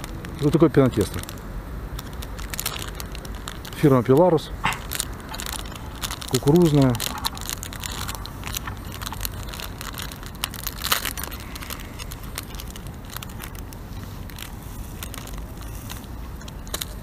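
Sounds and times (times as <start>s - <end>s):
plastic packet crinkling: 0.0s - 17.0s.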